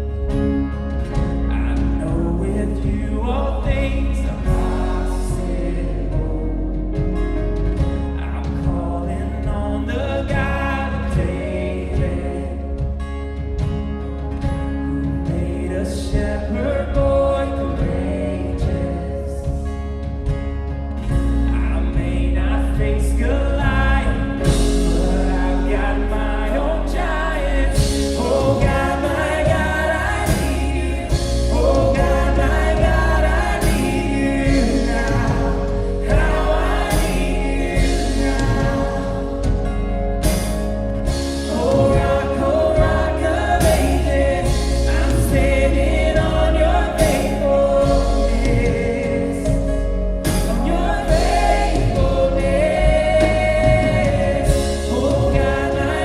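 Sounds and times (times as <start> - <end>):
live worship band: 0.0 - 56.0
people singing: 1.0 - 56.0.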